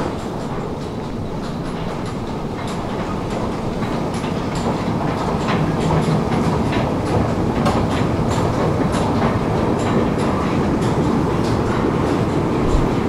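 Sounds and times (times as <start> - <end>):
escalator mechanical rumble: 0.0 - 13.0
escalator steps clicking: 0.0 - 13.0.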